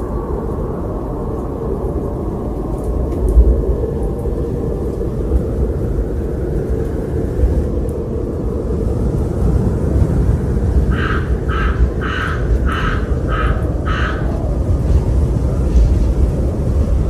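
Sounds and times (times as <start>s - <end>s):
wind blowing with deep rumble: 0.0s - 17.0s.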